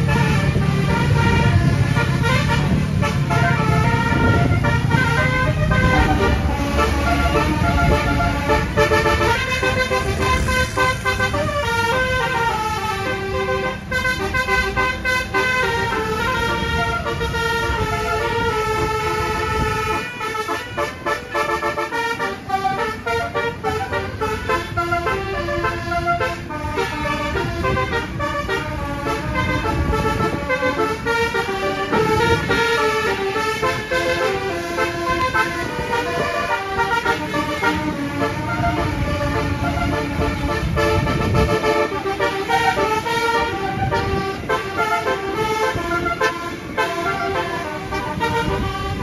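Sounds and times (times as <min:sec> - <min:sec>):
engine and road rumble: 0:00.0 - 0:49.0
musical bus horn melodies: 0:00.0 - 0:49.0.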